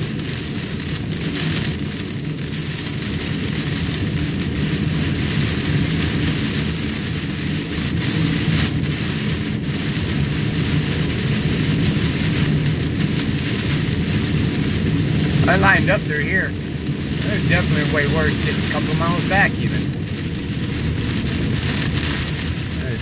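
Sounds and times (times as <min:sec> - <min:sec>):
car engine and tyres hum: 0:00.0 - 0:23.0
rain on car roof: 0:00.0 - 0:23.0.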